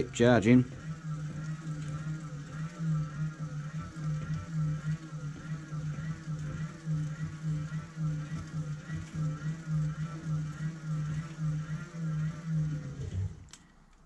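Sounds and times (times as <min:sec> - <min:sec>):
gear whine: 0:00.0 - 0:14.0
hand-cranked motor humming: 0:00.0 - 0:14.0.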